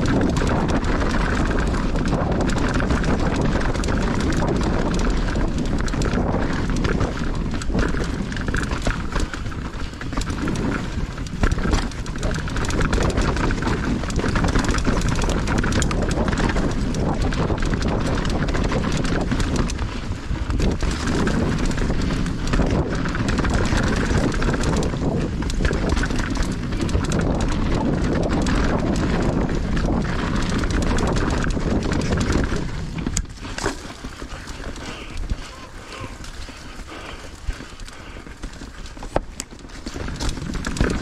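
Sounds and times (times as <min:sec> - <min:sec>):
bike knocking and rattling: 0:00.0 - 0:41.0
bike tyres rushing over dirt trail: 0:00.0 - 0:41.0.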